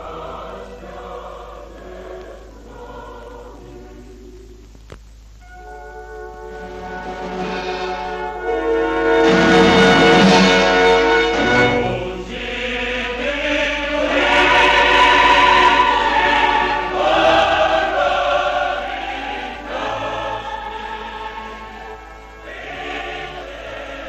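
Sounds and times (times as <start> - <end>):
choir singing film score: 0.0 - 4.7, 5.4 - 24.0.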